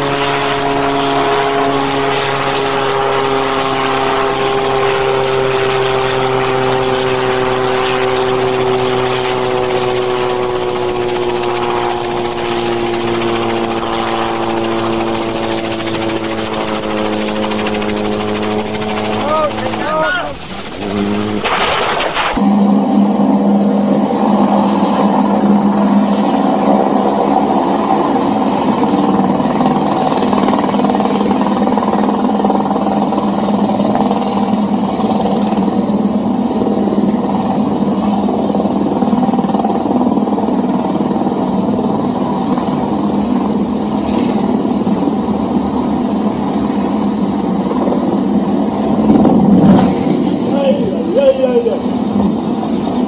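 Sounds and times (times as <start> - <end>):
helicopter engine hum: 0.0 - 53.0.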